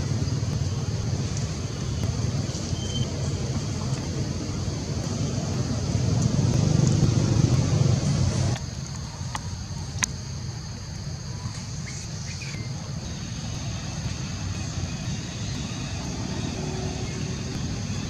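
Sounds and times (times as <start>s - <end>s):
high-pitched hiss: 0.0s - 18.0s
vehicle rumble: 0.0s - 18.0s.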